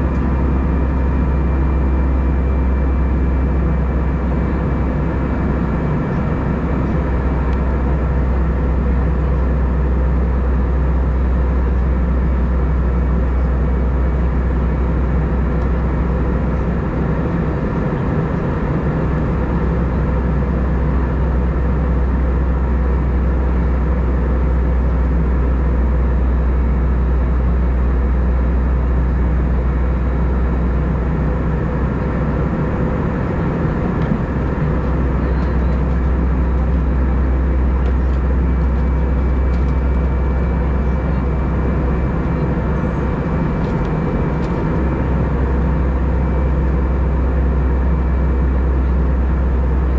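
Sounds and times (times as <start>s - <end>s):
engine and airflow drone: 0.0s - 49.9s.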